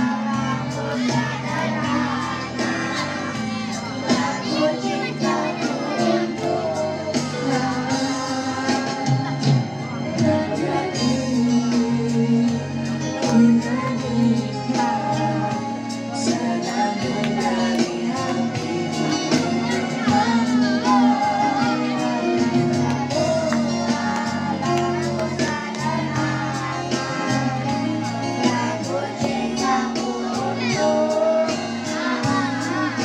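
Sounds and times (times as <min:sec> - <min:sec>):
boys singing into microphones: 0:00.0 - 0:33.0
musical accompaniment with steady beat: 0:00.0 - 0:33.0.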